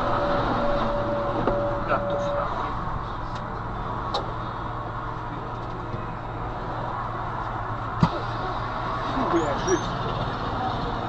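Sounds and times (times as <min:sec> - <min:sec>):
low vehicle hum: 0:00.0 - 0:11.0
road and traffic noise: 0:00.0 - 0:11.0.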